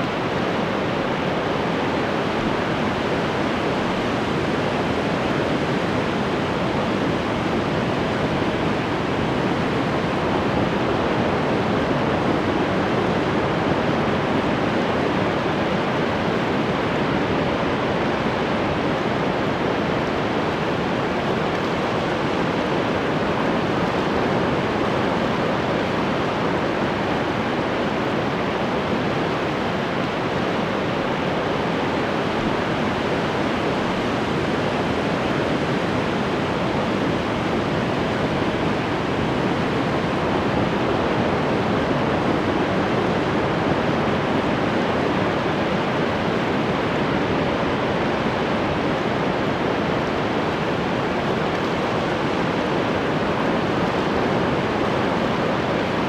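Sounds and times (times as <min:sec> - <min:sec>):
ocean waves washing onto shore: 0:00.0 - 0:56.0.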